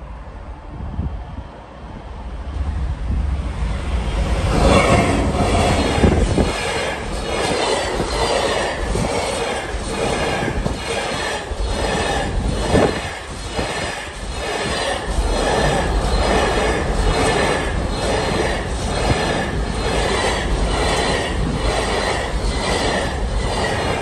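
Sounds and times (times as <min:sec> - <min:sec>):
diesel locomotive rumble: 0:00.0 - 0:24.0
wheels clattering over rail joints: 0:04.5 - 0:24.0.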